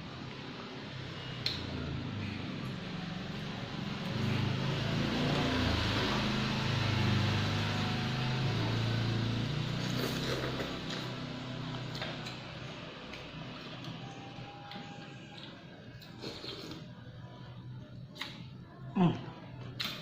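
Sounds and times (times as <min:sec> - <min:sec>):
motor vehicle passing by: 0:00.5 - 0:17.5.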